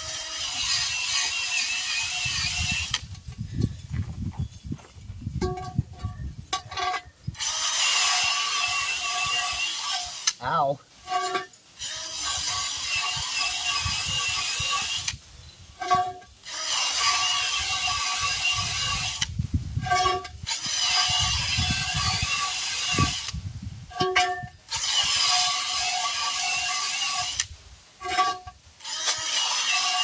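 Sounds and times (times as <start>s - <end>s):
wire wheel scrubbing metal: 0.0s - 3.2s, 5.4s - 30.0s.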